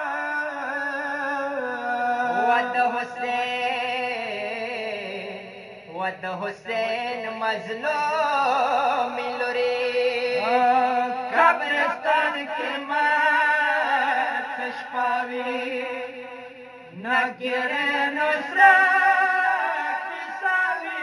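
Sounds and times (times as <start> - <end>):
male voices chanting a lament: 0.0 - 21.0.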